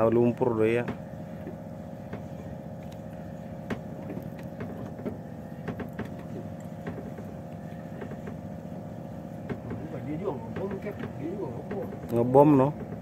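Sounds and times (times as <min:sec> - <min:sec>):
boat engine humming: 0:00.0 - 0:13.0
light knocks and clicks: 0:00.8 - 0:08.5, 0:09.4 - 0:13.0.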